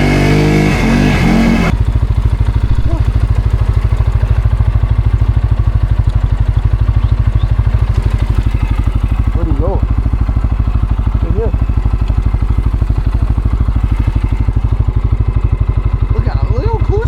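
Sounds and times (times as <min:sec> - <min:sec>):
atv engine revving and idling: 0:00.0 - 0:17.0.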